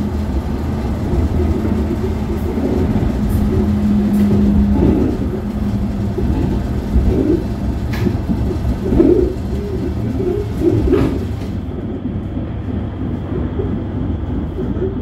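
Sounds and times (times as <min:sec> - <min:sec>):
low wavering sounds: 0:00.0 - 0:15.0
tram interior rumble: 0:00.0 - 0:15.0.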